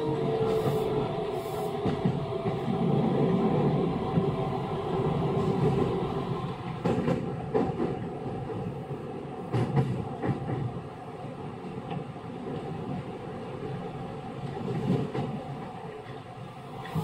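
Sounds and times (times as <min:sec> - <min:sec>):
train rolling noise: 0:00.0 - 0:17.0.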